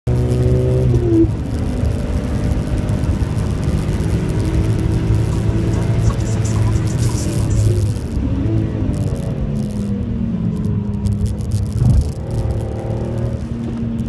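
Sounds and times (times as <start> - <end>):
wind and tyre noise: 0.0 - 14.0
car engine at high revs: 0.1 - 14.0.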